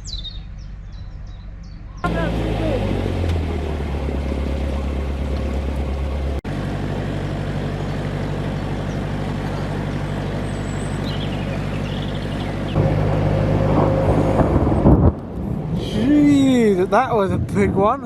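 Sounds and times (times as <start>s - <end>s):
boat engine throbbing: 2.0s - 17.1s.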